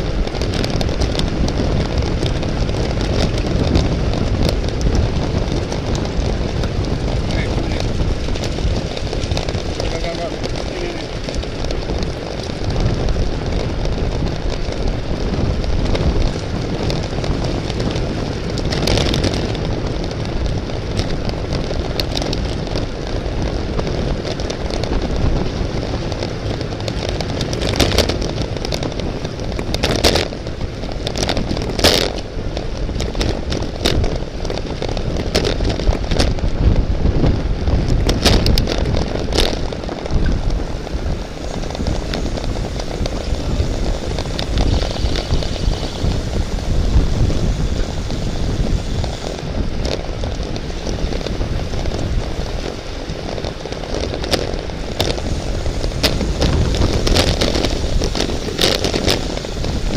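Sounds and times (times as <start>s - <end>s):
road rumble: 0.0s - 59.9s
sharp clicks and rattles: 0.0s - 59.9s
wind rushing on microphone: 0.0s - 59.9s.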